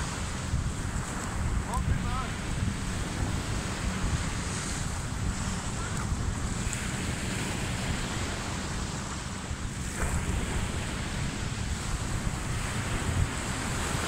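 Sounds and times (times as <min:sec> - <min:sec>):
ocean surf washing in: 0:00.0 - 0:14.0
wind buffeting microphone: 0:00.0 - 0:14.0.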